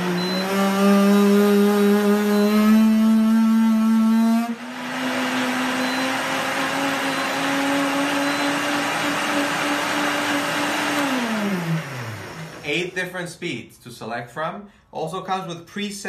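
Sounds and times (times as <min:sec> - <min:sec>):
blender motor whirring: 0:00.0 - 0:13.0.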